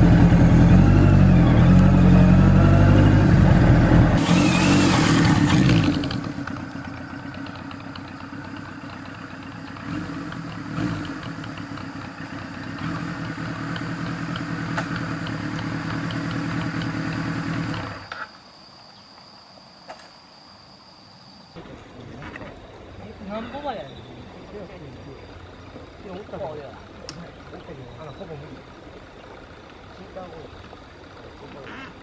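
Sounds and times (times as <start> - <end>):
motorcycle engine idling: 0.0 - 18.2, 21.6 - 32.0.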